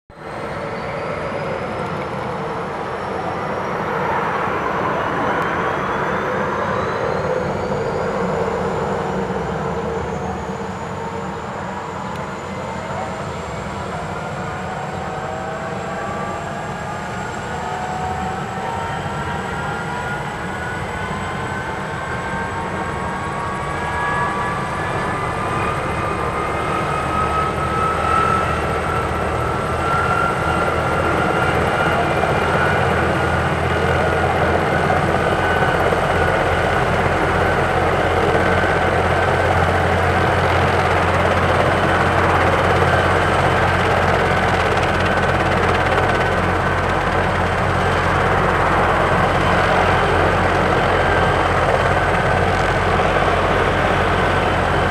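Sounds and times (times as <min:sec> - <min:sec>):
helicopter rotor low beat: 0:00.1 - 0:54.9
helicopter turbine whine: 0:00.1 - 0:54.9.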